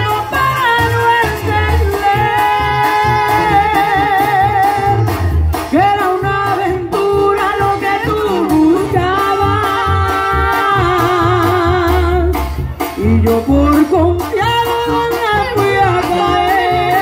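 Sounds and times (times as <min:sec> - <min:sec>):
woman singing: 0:00.0 - 0:05.1, 0:05.7 - 0:12.4, 0:13.2 - 0:17.0
brass band music: 0:00.0 - 0:17.0
sousaphone bass line: 0:00.0 - 0:17.0.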